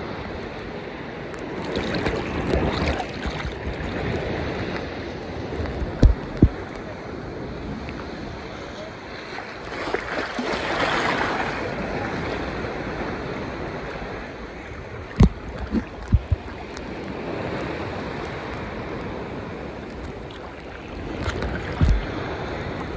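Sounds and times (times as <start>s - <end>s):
ocean waves washing at shoreline: 0.0s - 22.9s
wind buffeting microphone: 0.0s - 22.9s.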